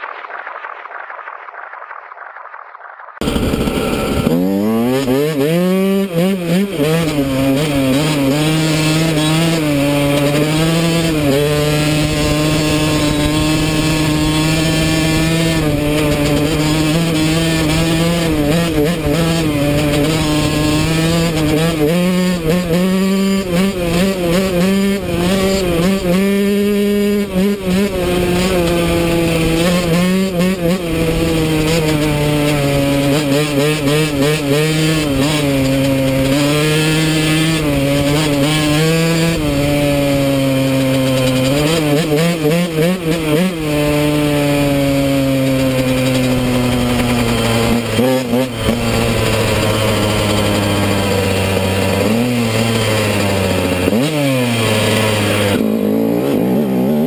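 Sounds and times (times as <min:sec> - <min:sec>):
dirt bike engine revving: 0:03.2 - 0:57.0.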